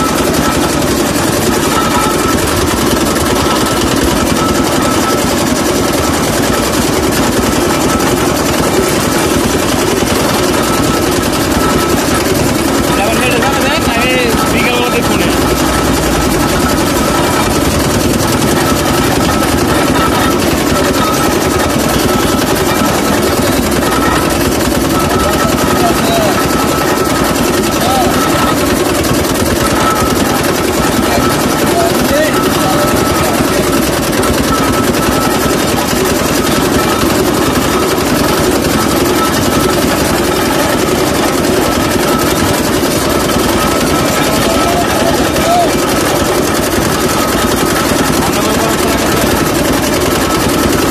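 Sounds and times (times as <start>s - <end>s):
juice machine engine chugging: 0.0s - 50.9s.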